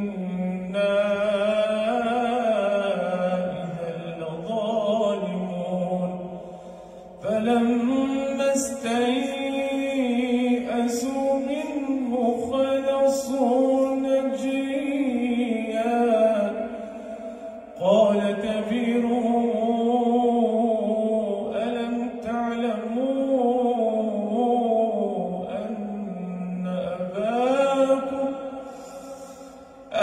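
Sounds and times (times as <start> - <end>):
man chanting melodically: 0.0 - 6.5, 7.1 - 30.0.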